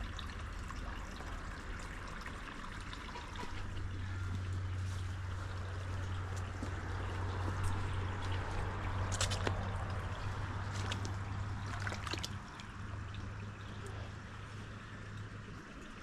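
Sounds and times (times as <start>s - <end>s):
constant low hum: 0.0s - 16.0s
water trickling: 0.0s - 16.0s.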